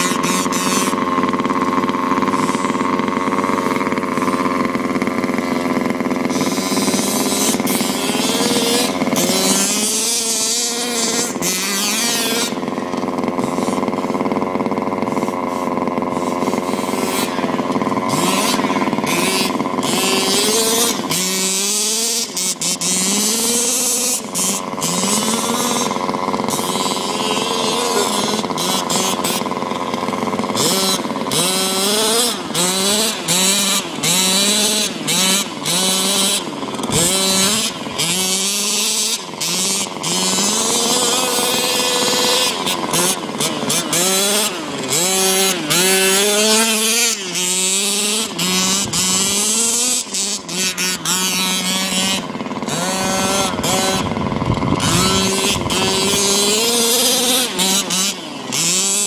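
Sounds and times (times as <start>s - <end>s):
small two-stroke engine buzzing: 0.0s - 59.0s.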